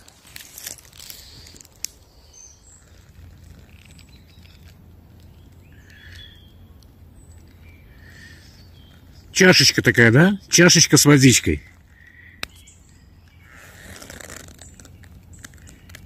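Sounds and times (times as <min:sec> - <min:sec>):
low background rumble: 0:00.0 - 0:16.0
birds chirping: 0:01.2 - 0:16.0.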